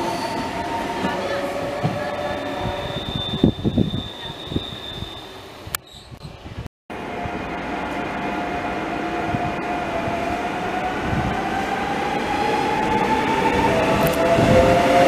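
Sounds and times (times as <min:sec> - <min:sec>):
whining tones from train: 0:00.0 - 0:05.8, 0:07.0 - 0:15.0
train rumble: 0:00.0 - 0:15.0.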